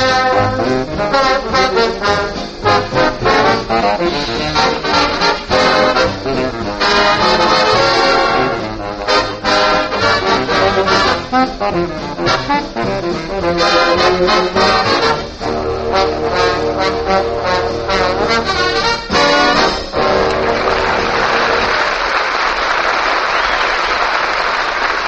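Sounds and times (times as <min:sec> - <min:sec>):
trombones and trumpets: 0:00.0 - 0:22.0
big band playing: 0:00.0 - 0:25.0.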